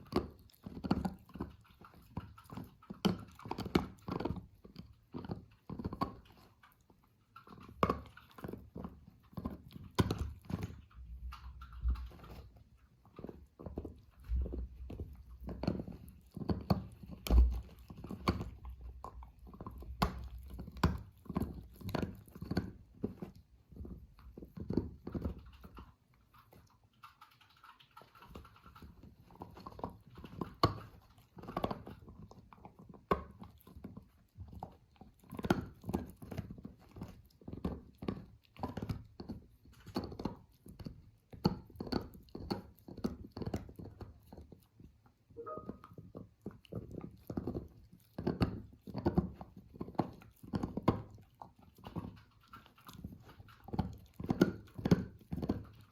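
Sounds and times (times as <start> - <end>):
dog chewing a toy: 0.0 - 55.9.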